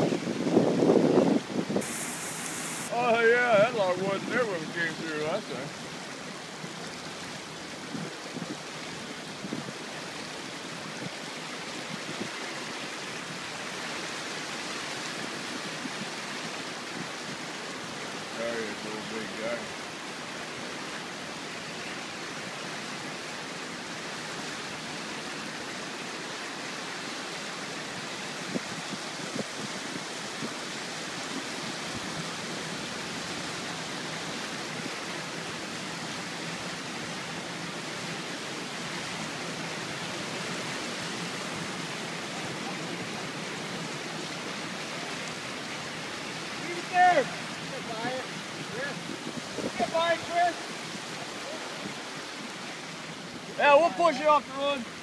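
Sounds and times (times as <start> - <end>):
rushing floodwater: 0.0 - 55.0.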